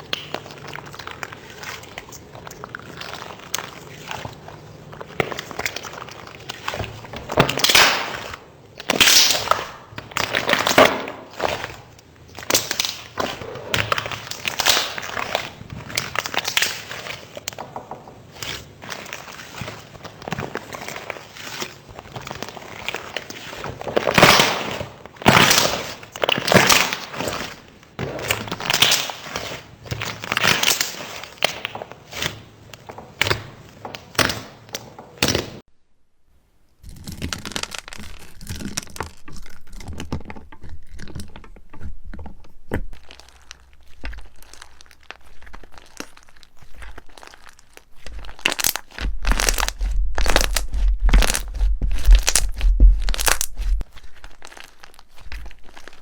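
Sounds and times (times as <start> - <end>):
slime squeezed by hand crackling: 0.0 - 35.6, 42.9 - 56.0.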